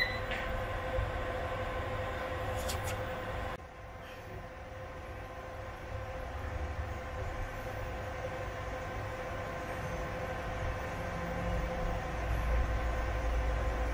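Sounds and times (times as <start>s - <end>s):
electrical hum with high whine: 0.0s - 13.9s.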